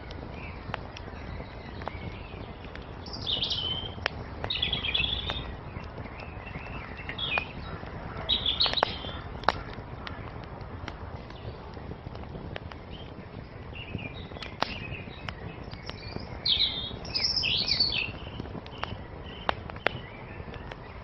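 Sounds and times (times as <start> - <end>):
songbirds chirping: 0.0 - 21.0
wood fire crackling and popping: 0.0 - 21.0.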